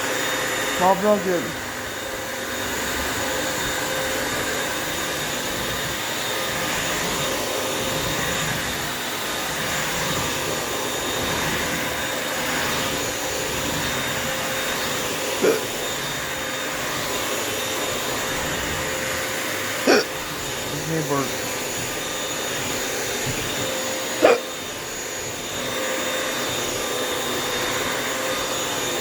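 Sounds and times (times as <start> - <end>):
wet vacuum mop running: 0.0 - 29.0.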